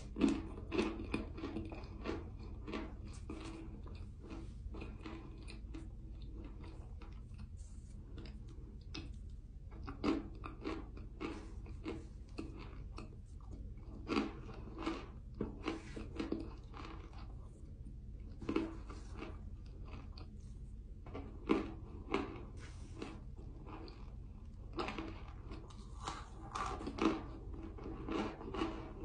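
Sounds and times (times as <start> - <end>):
crisp chewing crunches: 0.0 - 29.0
steady low hum: 0.0 - 29.0.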